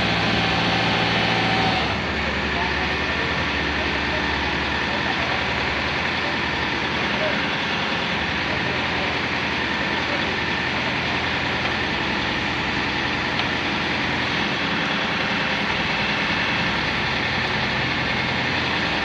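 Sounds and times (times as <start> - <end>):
drilling rig engine running: 0.0 - 19.0.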